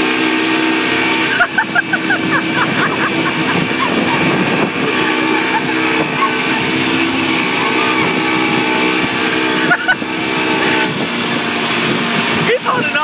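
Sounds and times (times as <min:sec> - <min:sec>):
boat wake rushing: 0:00.0 - 0:13.0
outboard motor running: 0:00.0 - 0:13.0.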